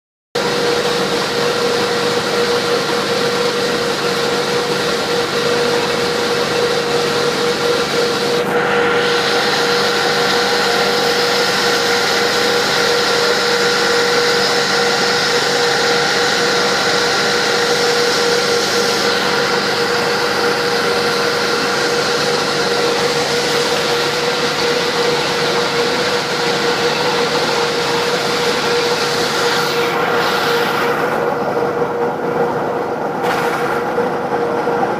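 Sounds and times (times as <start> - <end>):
industrial machine humming: 0.4 - 34.9.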